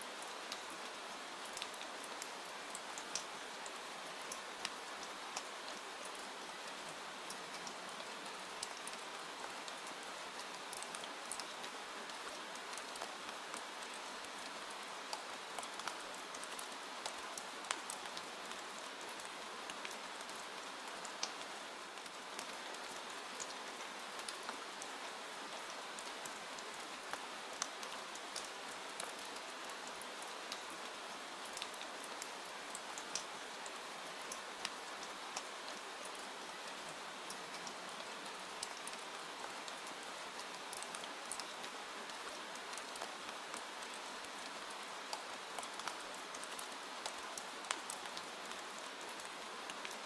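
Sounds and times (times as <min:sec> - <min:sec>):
rain on a window: 0:00.0 - 0:50.0.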